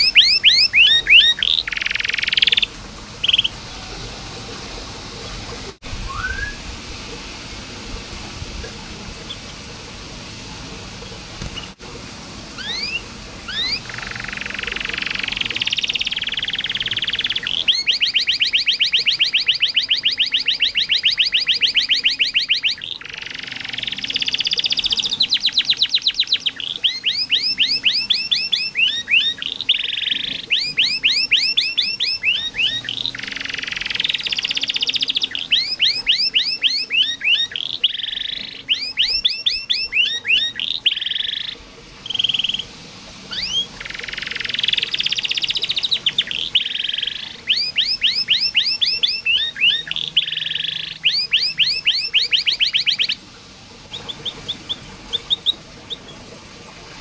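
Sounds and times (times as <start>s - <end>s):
canary singing: 0.0s - 4.1s, 6.0s - 6.6s, 12.6s - 42.7s, 43.3s - 53.2s, 53.9s - 56.3s.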